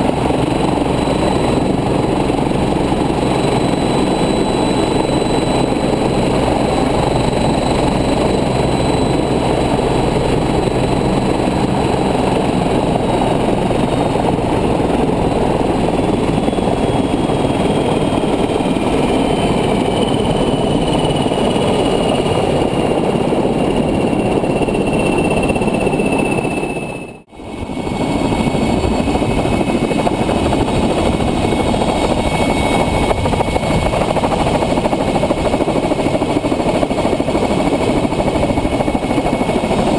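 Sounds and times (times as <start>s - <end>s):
helicopter turbine and rotor noise: 0.0s - 39.9s
high turbine whine: 0.0s - 39.9s.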